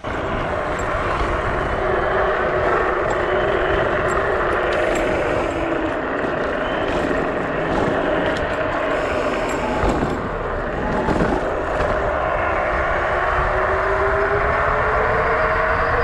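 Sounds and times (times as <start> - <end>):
electric motor whine: 0.0 - 16.0
tyre road noise: 0.0 - 16.0
wind rush on microphone: 0.0 - 16.0.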